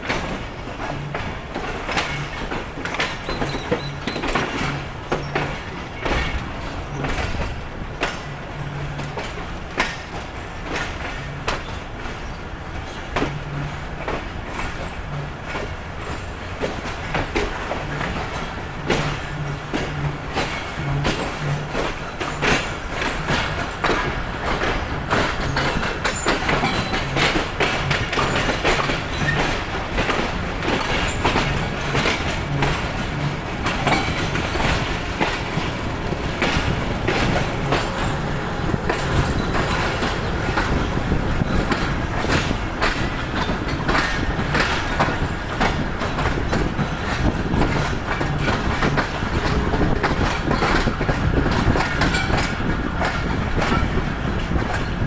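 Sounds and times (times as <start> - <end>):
rumble and rattle of running gear: 0.0 - 55.0
train wheels clacking: 0.0 - 55.0.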